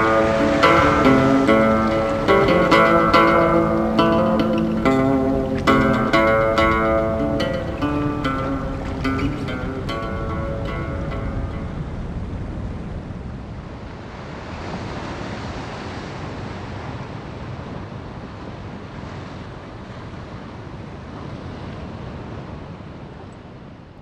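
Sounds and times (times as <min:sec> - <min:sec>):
ocean surf rushing: 0:00.0 - 0:23.2.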